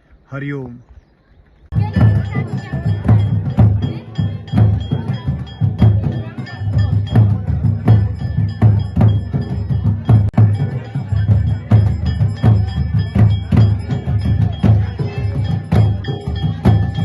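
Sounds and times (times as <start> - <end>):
bells ringing: 1.7 - 17.0
drumming steady beat: 1.7 - 17.0.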